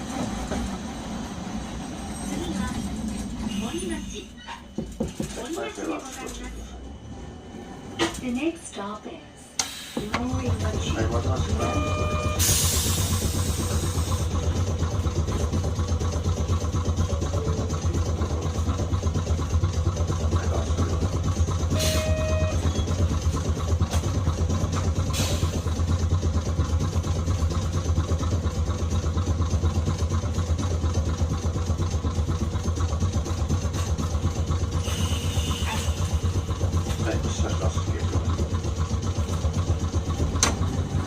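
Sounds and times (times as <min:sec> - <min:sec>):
streetcar equipment humming: 0:00.0 - 0:41.0.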